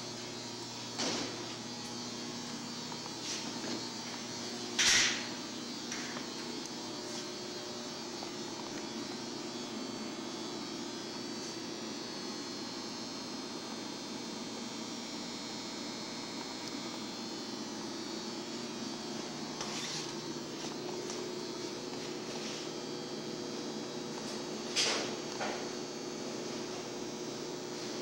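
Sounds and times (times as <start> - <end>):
machinery hum and air noise: 0.0 - 28.0.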